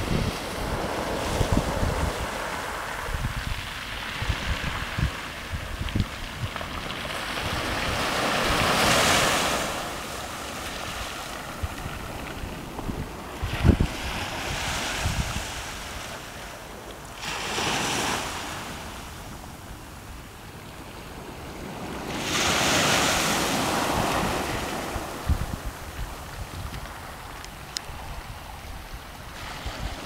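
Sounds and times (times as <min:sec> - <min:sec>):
small waves breaking on beach: 0:00.0 - 0:30.0
wind buffeting microphone: 0:00.0 - 0:30.0.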